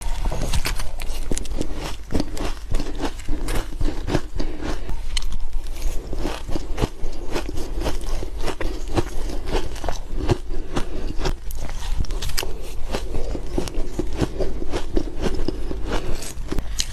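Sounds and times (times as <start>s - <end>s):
ice being chewed: 0.0s - 16.9s.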